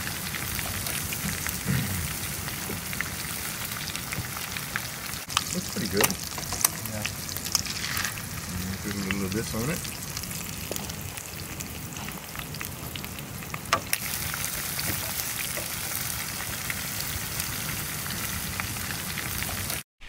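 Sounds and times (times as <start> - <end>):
fish sizzling in a pan: 0.0 - 19.8.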